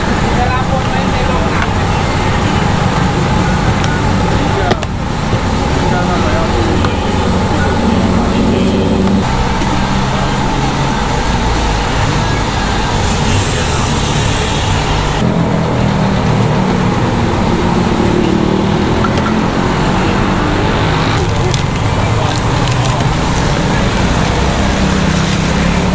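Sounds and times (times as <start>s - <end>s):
vehicles passing: 0.0s - 25.9s.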